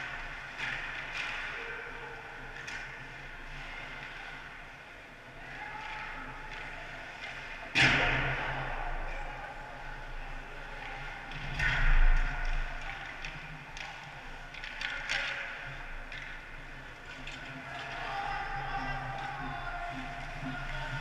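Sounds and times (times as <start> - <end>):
clicks of sticks and puck: 0.0 - 1.7, 2.5 - 4.5, 5.6 - 8.6, 10.7 - 21.0.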